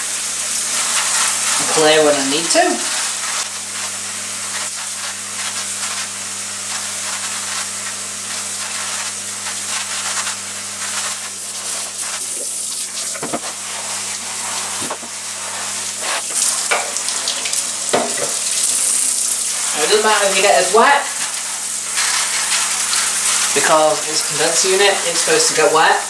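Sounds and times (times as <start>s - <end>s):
water spray hissing: 0.0s - 26.0s.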